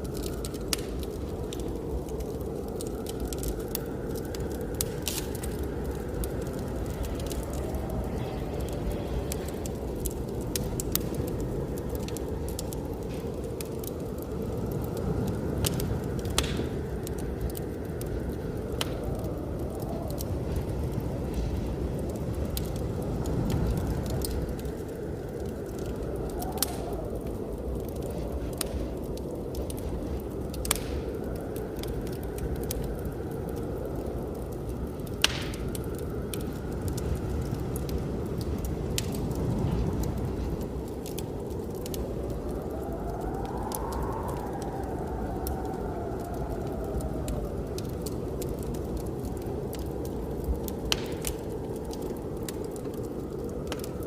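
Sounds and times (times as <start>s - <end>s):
blizzard wind rushing: 0.0s - 54.0s
wood fire crackling and popping: 0.0s - 54.0s.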